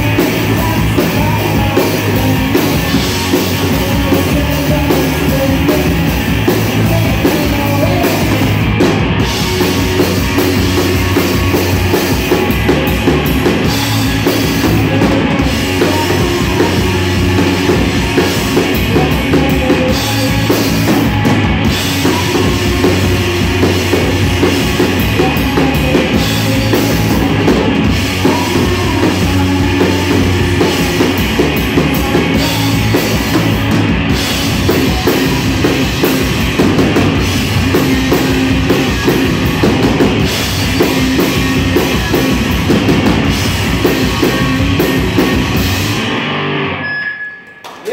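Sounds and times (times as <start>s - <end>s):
live rock band playing: 0.0s - 47.6s.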